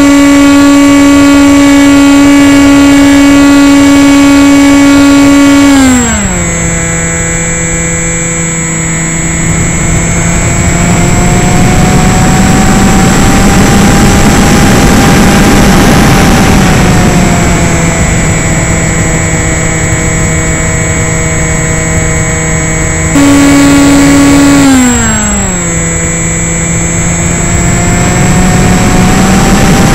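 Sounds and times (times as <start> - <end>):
electric propeller motor whining: 0.0 - 29.9.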